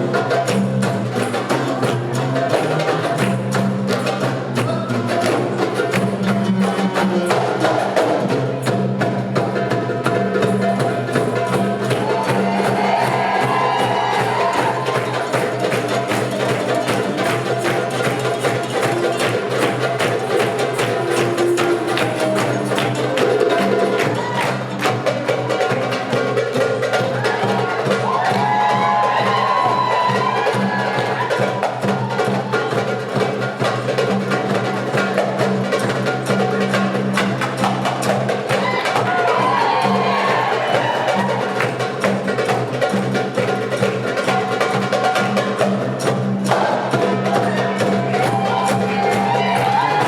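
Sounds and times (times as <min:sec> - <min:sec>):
hand drums playing fast rhythm: 0:00.0 - 0:50.0.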